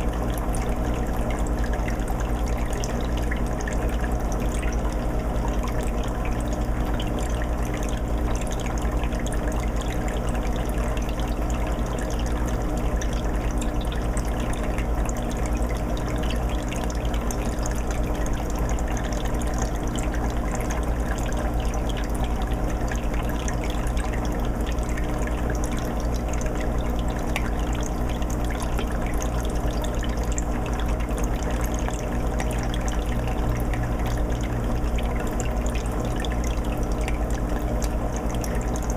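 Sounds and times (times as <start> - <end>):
aquarium filter water trickling: 0.0 - 38.9
low steady hum: 0.0 - 38.9.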